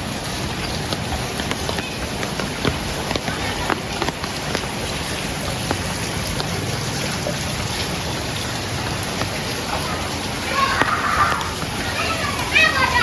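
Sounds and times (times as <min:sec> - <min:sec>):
rain drop ticks: 0:00.0 - 0:13.0
steady rain hiss: 0:00.0 - 0:13.0.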